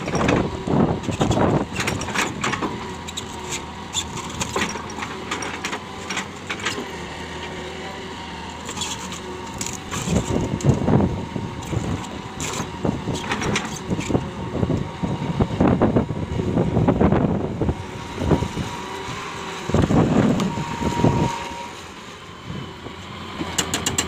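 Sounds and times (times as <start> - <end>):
excavator running: 0.0 - 24.0.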